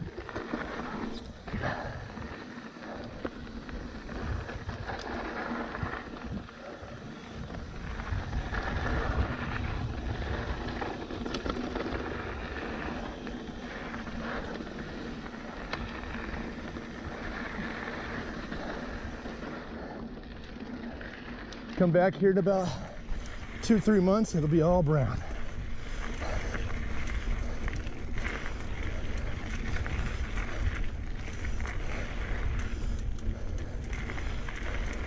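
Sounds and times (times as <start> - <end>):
wind buffeting microphone: 0.0 - 19.9, 23.0 - 35.0
bike rattles and ticks: 0.0 - 35.0
bike tyres crunching over gravel: 0.0 - 35.0.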